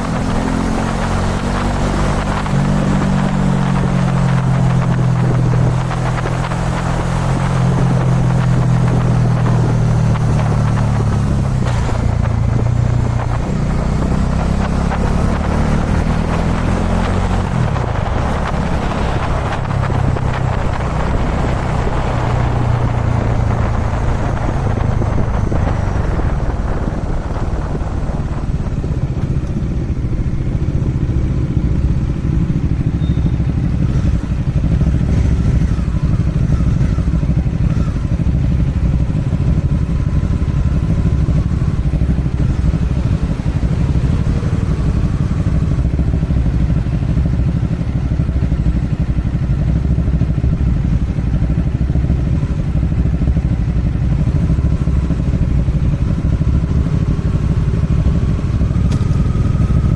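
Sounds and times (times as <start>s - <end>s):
motorcycle engine running: 0.0s - 59.9s
road and wind rush: 0.0s - 59.9s.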